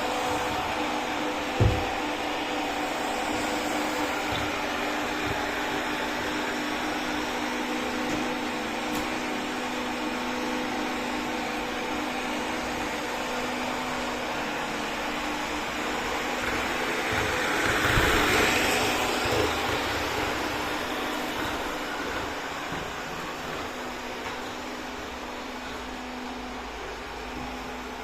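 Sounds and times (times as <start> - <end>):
robot vacuum cleaner whirring: 0.0 - 28.0.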